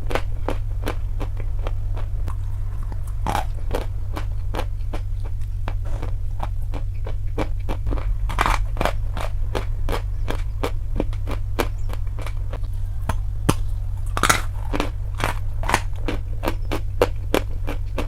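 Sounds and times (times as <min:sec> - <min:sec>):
chalk being chewed: 0:00.0 - 0:18.0.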